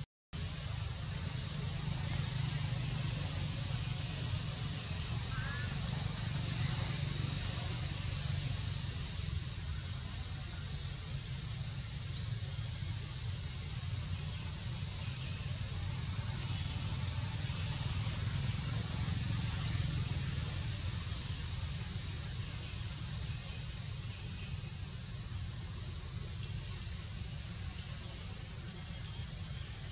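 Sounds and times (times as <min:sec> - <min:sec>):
faint hiss: 0:00.4 - 0:29.9.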